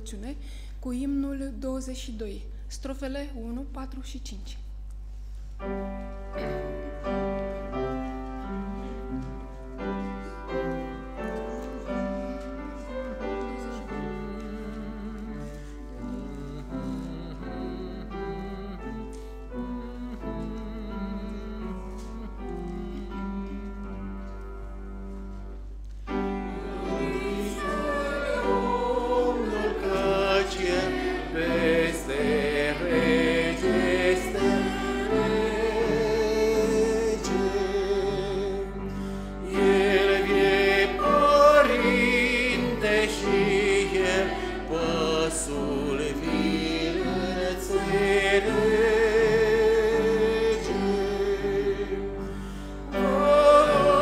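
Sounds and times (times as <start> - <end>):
group singing a hymn: 6.4 - 23.9, 26.1 - 54.0.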